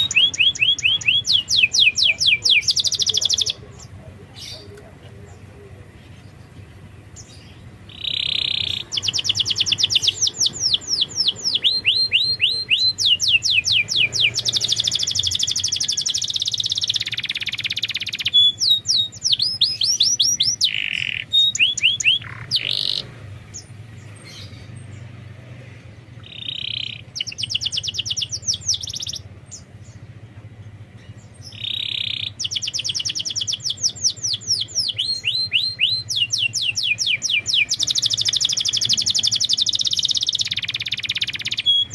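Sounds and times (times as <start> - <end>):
canary singing fast trills: 0.0 - 41.9.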